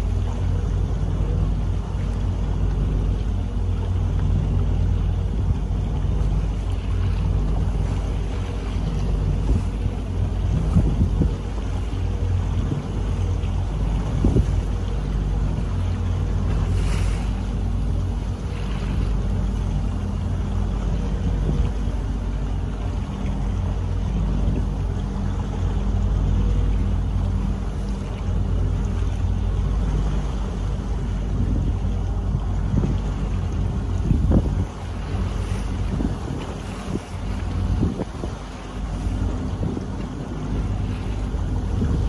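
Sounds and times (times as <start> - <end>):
boat engine hum: 0.0 - 42.0
wind on microphone: 0.0 - 42.0.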